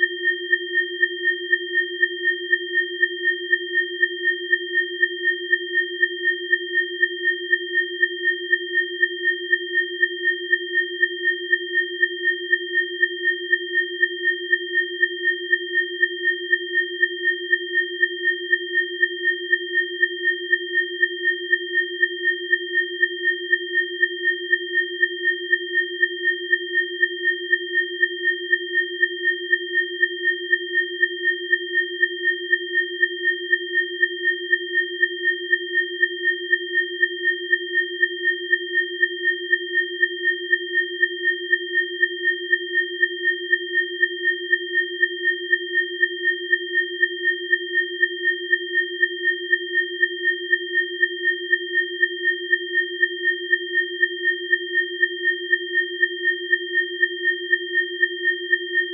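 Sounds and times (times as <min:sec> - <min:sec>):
pulsing electronic sine tones: 0:00.0 - 0:58.9.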